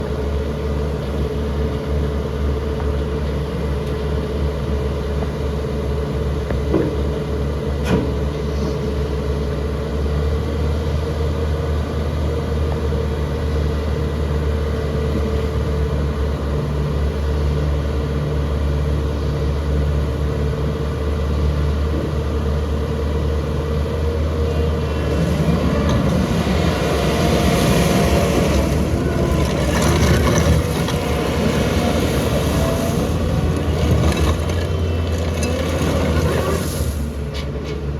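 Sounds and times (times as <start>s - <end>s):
diesel engine rumbling: 0.0s - 37.9s.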